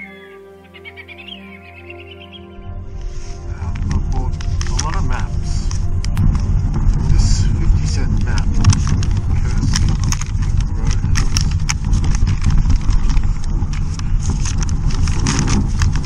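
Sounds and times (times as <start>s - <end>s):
motorcycle engine rumble: 2.6s - 16.0s
paper map crinkling: 3.2s - 16.0s.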